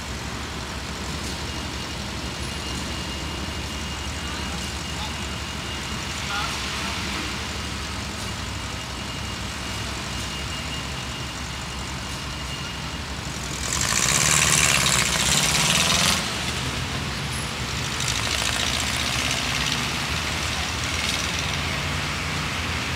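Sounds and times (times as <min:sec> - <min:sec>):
heavy vehicle engine running: 0:00.0 - 0:22.9
street traffic: 0:00.0 - 0:22.9.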